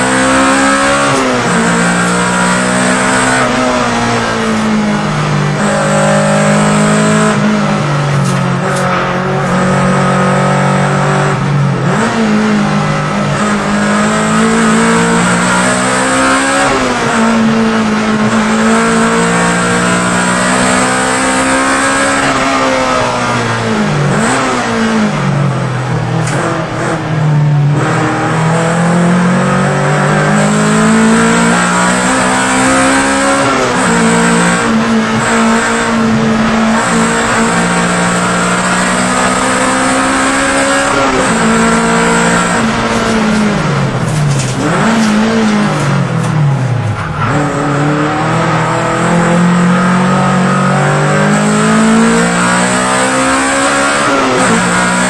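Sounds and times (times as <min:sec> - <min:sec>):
race car engine revving: 0:00.0 - 0:55.0
road and wind noise: 0:00.0 - 0:55.0.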